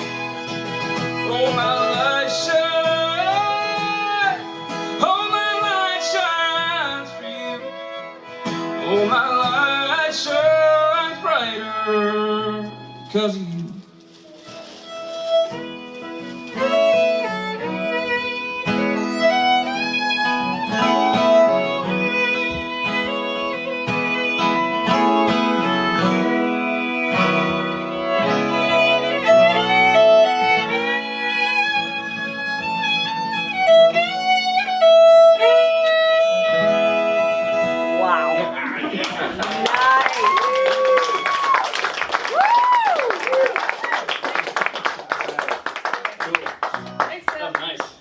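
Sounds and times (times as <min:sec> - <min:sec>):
strummed acoustic guitar: 0:00.0 - 0:39.4
fiddle melody: 0:00.0 - 0:40.0.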